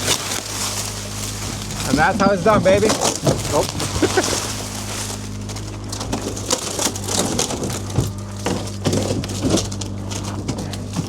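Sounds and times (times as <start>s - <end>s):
diesel engine running: 0.0s - 11.0s
wood cracking and splintering: 0.0s - 11.0s.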